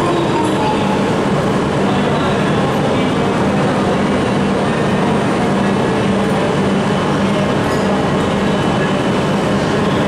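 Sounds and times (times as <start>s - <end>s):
train pulling out hum: 0.0s - 10.0s.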